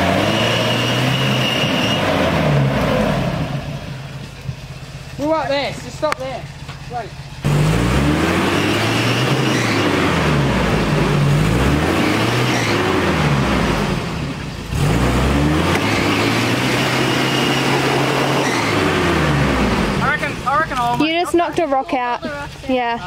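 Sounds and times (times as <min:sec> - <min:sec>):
engine revving under load: 0:00.0 - 0:04.5, 0:05.5 - 0:21.7.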